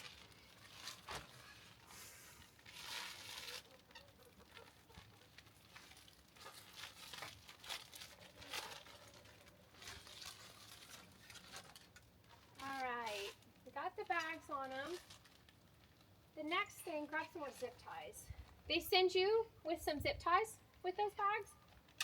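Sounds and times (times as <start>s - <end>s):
plastic bags crinkling: 0.0s - 18.6s.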